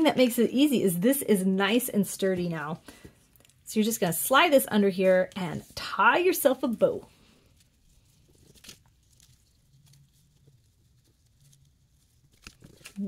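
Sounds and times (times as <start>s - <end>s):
ribbon and cardstock rustling: 0.0s - 13.0s.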